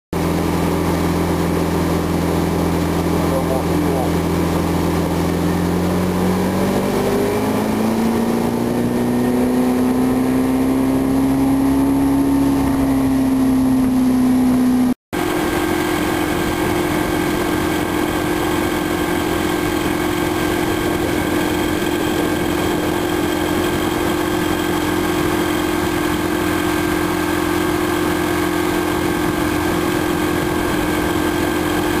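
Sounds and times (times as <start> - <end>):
outboard motor running: 0.2 - 32.0.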